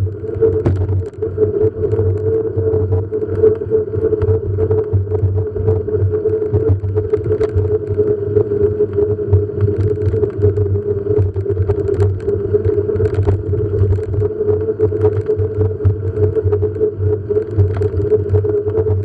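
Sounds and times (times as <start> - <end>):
faint rattles and clicks: 0.0 - 19.0
motor droning hum: 0.0 - 19.0.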